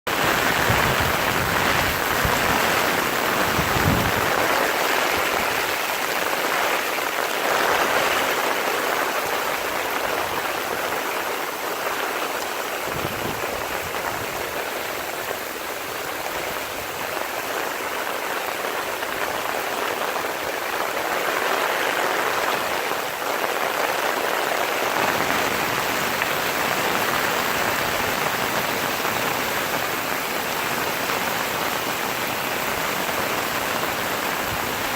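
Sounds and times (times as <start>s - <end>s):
heavy rain: 0.1s - 34.9s.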